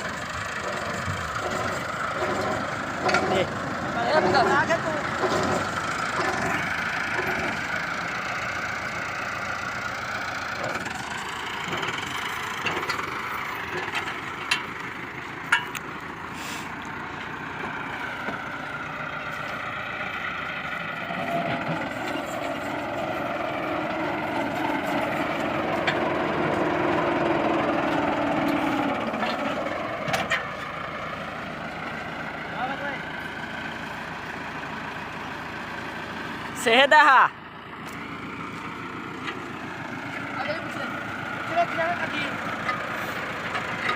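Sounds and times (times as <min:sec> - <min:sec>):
deeper engine tone: 0:00.0 - 0:43.9
heavy machinery engines running: 0:00.0 - 0:43.9.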